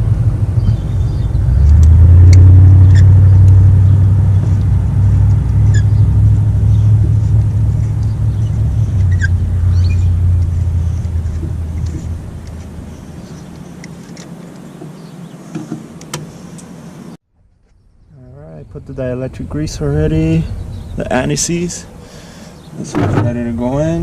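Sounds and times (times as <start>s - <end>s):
motor vehicle rumbling: 0.0s - 24.0s.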